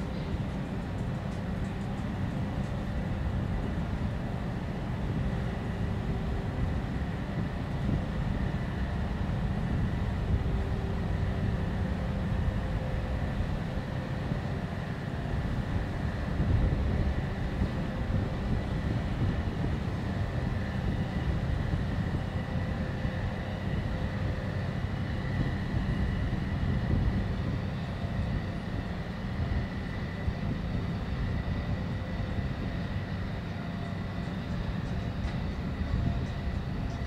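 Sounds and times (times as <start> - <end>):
ship engine rumble: 0.0 - 37.0
thin steady whine: 0.0 - 37.0.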